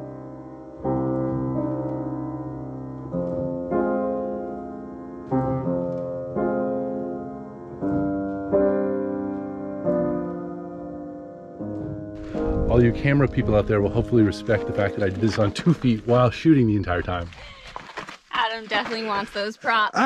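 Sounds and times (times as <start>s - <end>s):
slow piano chords: 0.0s - 16.8s.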